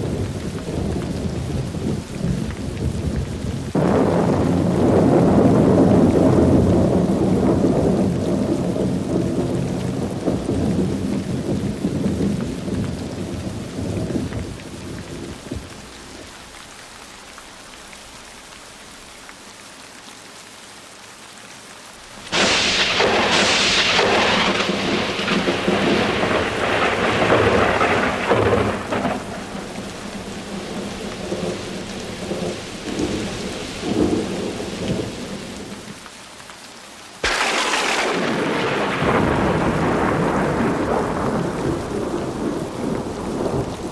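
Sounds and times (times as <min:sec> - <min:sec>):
sharp thunderclap: 0:00.0 - 0:15.8, 0:22.3 - 0:35.9, 0:37.2 - 0:43.9
thunder rumbling: 0:00.0 - 0:16.3, 0:22.3 - 0:36.0, 0:37.2 - 0:43.9
heavy rain: 0:00.0 - 0:43.9.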